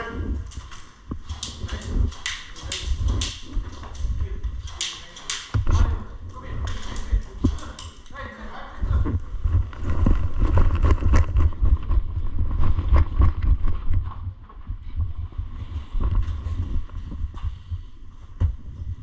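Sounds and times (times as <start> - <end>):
wind rumble on microphone: 0.0 - 4.8, 5.5 - 19.0
low thumps: 0.0 - 7.8, 8.8 - 19.0.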